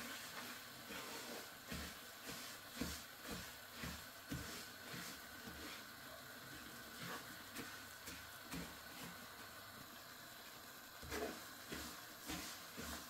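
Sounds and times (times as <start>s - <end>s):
wooden spoon scraping a pan: 0.0s - 9.5s, 11.0s - 13.0s
faint sizzle of dal roasting: 0.0s - 13.0s.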